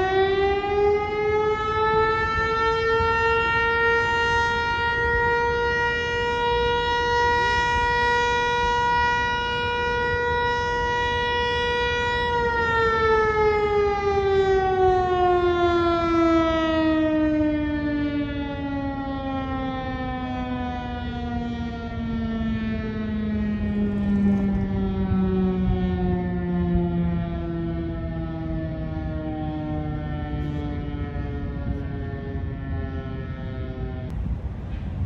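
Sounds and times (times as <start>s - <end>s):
warning siren winding down: 0.0s - 35.0s.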